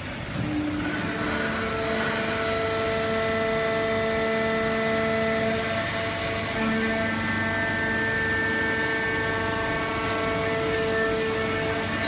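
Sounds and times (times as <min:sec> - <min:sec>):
baler machine running: 0:00.0 - 0:12.0
steady whining hum: 0:00.0 - 0:12.0.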